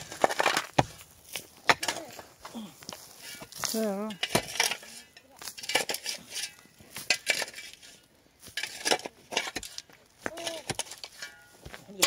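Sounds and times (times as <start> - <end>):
stones and rubble crunching: 0.0 - 12.0.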